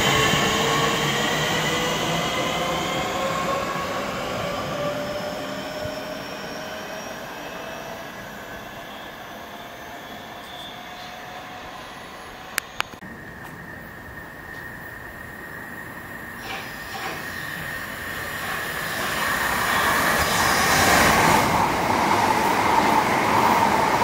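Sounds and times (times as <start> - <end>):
electric train accelerating: 0.0 - 24.0.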